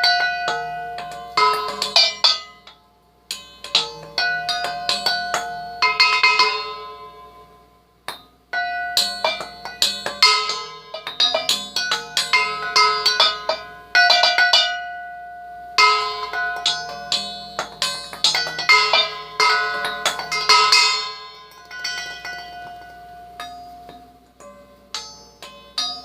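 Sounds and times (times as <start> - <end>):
mixing bowls ringing when struck: 0.0 - 26.0.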